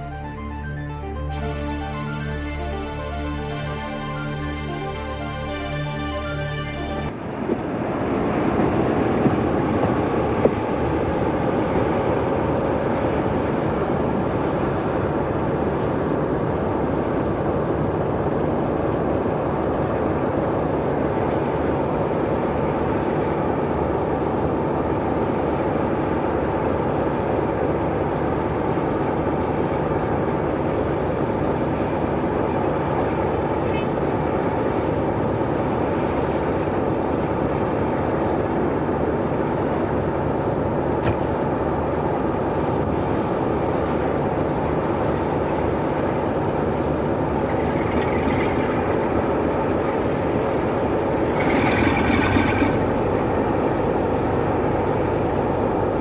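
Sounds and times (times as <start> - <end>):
diesel train engine running: 0.0 - 56.0.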